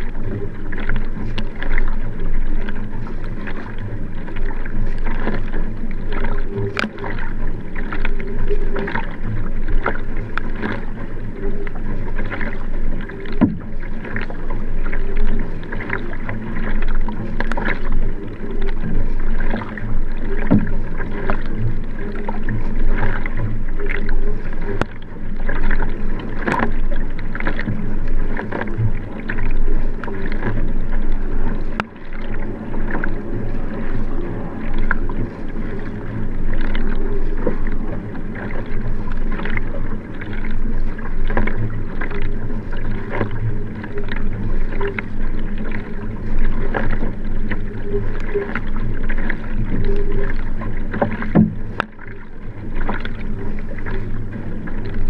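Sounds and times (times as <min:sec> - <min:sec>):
kayak paddle splashing: 0:00.0 - 0:55.0
water washing against boat: 0:00.0 - 0:55.0.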